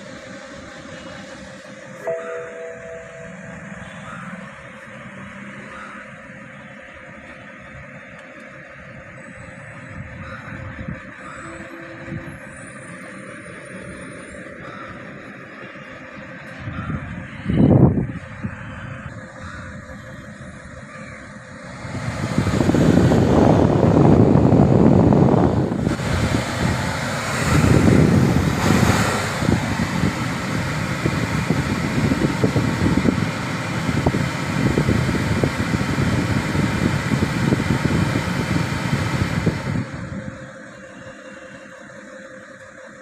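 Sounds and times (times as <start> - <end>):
blower fan air rush: 0.0 - 43.0.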